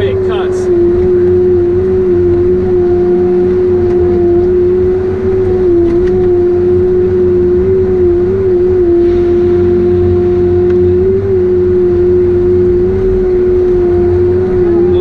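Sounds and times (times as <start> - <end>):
diesel engine and hydraulics whining: 0.0 - 15.0.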